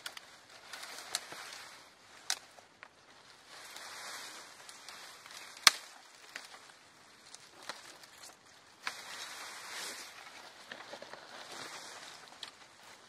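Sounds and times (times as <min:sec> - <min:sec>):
branches rustling through grass: 0:00.0 - 0:13.0
dry wood cracking: 0:00.0 - 0:13.0.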